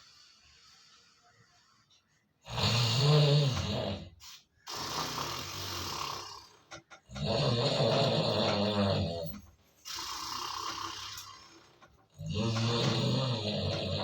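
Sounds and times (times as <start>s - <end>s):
person snoring: 2.4s - 14.0s.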